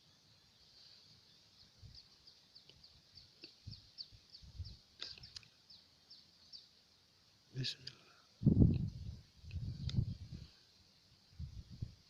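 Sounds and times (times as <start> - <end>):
faint bird chirping: 0.0 - 9.9.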